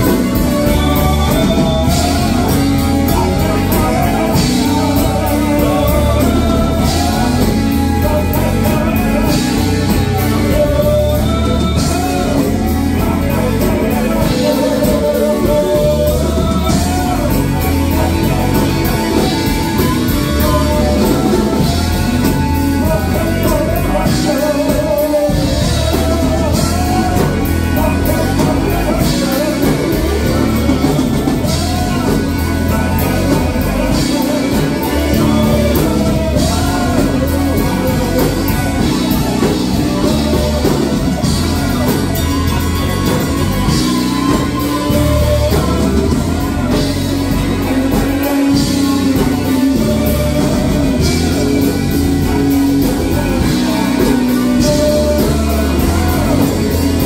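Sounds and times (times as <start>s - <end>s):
funk band playing: 0.0s - 57.0s
lead vocalist singing: 0.0s - 57.0s.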